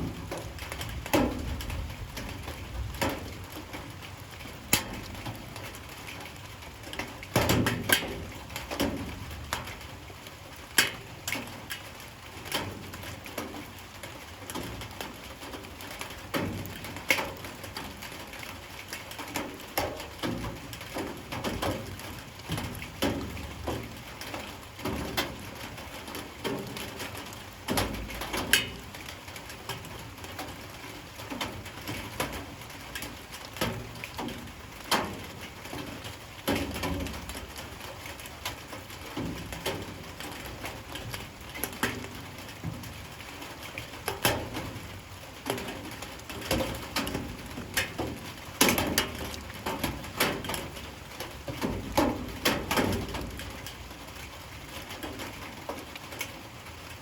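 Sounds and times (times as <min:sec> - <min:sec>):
light rain falling: 0:00.0 - 0:57.0.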